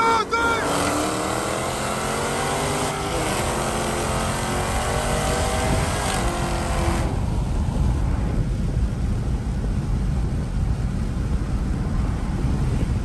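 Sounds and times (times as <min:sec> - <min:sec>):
car engine running hard: 0:00.0 - 0:13.0
wind and road hiss: 0:00.0 - 0:13.0.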